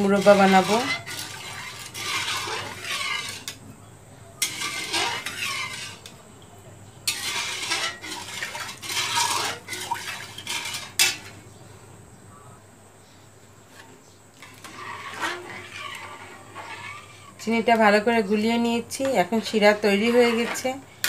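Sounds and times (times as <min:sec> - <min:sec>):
metal spatula scraping a pan: 0:00.0 - 0:03.6, 0:04.4 - 0:06.1, 0:07.0 - 0:11.5, 0:13.7 - 0:21.0.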